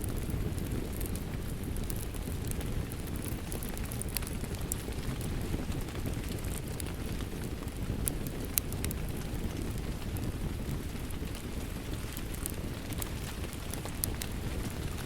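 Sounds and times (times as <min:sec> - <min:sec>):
rain falling: 0:00.0 - 0:15.0
wood fire crackling: 0:00.0 - 0:15.0.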